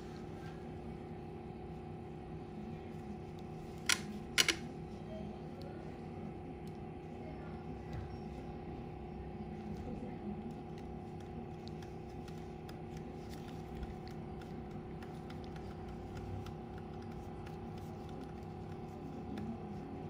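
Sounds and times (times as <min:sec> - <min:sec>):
background hum: 0:00.0 - 0:20.0.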